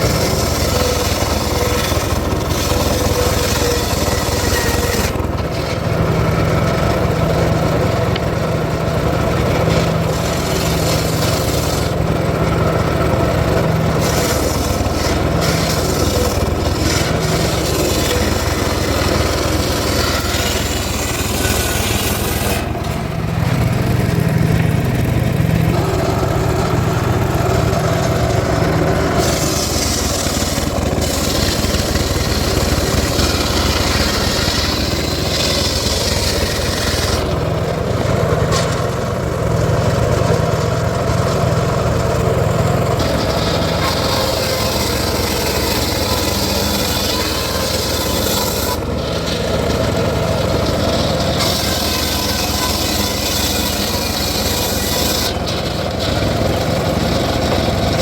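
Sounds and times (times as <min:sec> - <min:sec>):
circular saw cutting wood: 0:00.0 - 0:58.0.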